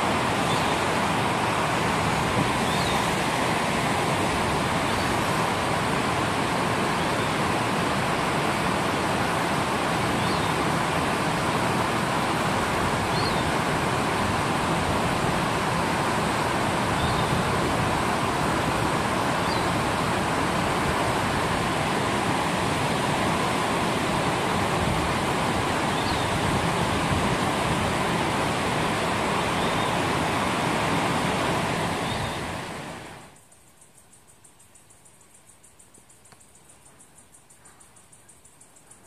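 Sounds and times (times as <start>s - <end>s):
stream water rushing: 0.0s - 33.4s.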